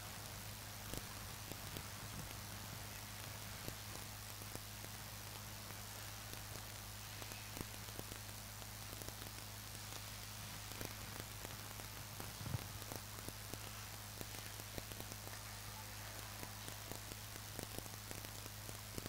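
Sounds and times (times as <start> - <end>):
sound system hum and hiss: 0.0 - 19.0.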